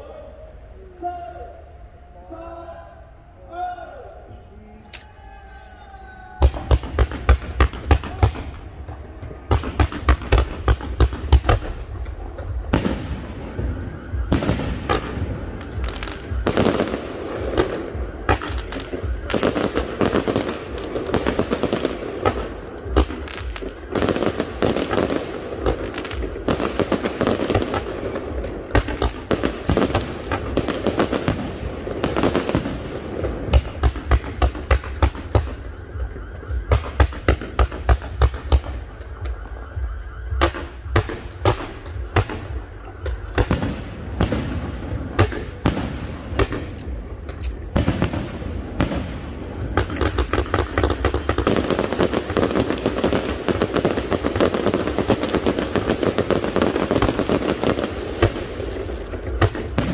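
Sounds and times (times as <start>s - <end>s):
fireworks bangs: 6.1s - 59.9s
fireworks crackling: 6.3s - 59.9s.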